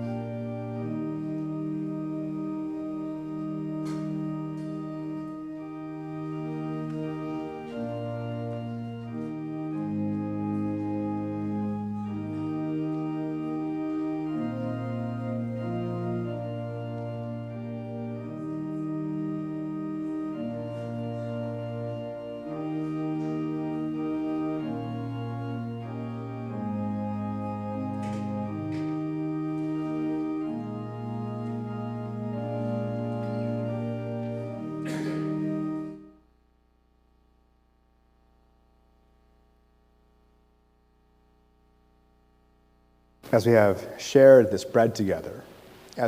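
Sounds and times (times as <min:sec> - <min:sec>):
organ playing sustained chords: 0:00.0 - 0:36.3, 0:41.7 - 0:46.0.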